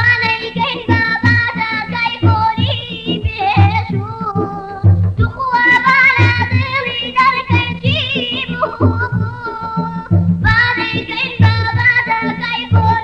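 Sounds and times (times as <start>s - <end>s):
person singing: 0.0s - 13.0s.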